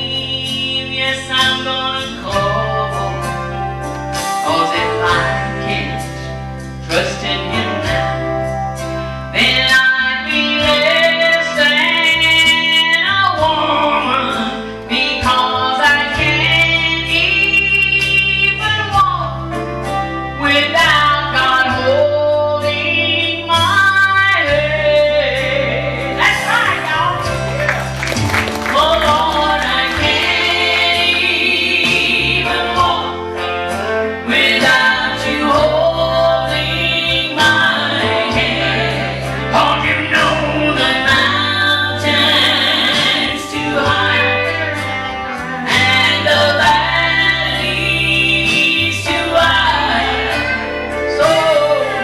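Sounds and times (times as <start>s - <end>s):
bass and guitar backing: 0.0s - 52.0s
country gospel music: 0.0s - 52.0s
sliding lead melody: 0.0s - 52.0s.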